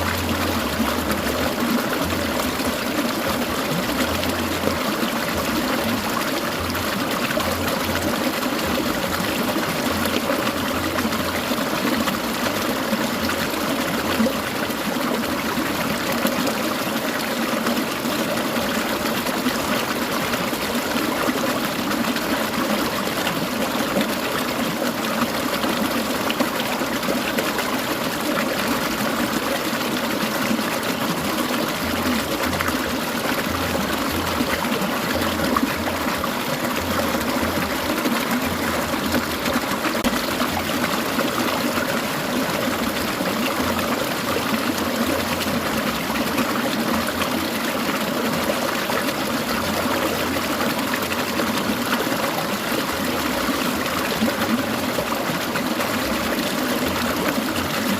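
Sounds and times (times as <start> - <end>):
stream water babbling: 0.0 - 57.9.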